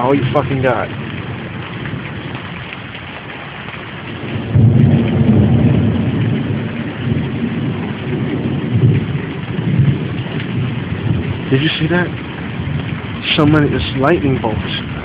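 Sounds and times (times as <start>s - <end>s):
rumble of thunder: 0.0s - 15.0s
steady rain falling: 0.0s - 15.0s.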